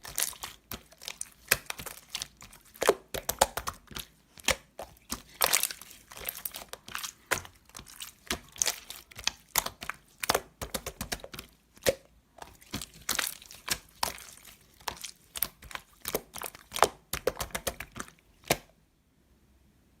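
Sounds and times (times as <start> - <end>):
slime crackling and popping: 0.0 - 18.7.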